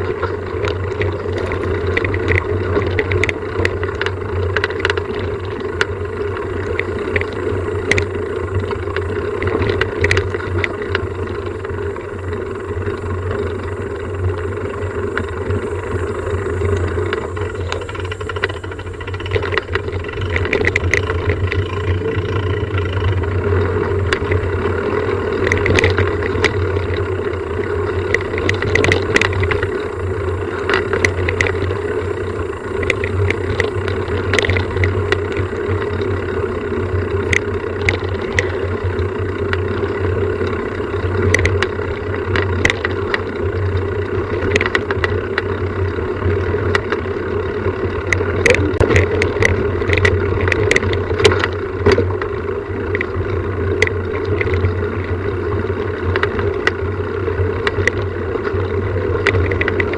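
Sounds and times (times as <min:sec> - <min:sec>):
motor drone: 0:00.0 - 0:59.9
rattles and clicks: 0:00.0 - 0:59.9.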